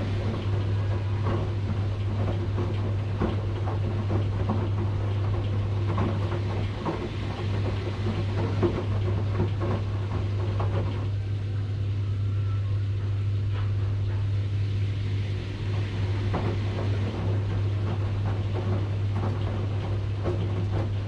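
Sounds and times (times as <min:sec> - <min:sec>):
drum knocking and swishing: 0:00.0 - 0:11.2, 0:12.9 - 0:21.0
washing machine hum: 0:00.0 - 0:21.0.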